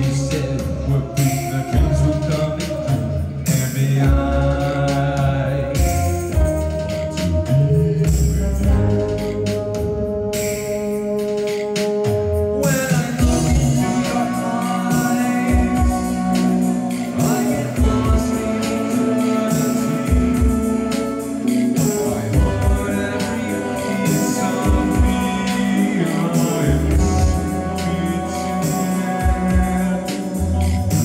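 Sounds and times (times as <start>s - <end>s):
person singing: 0.0s - 10.8s, 12.6s - 31.0s
live band playing: 0.0s - 31.0s.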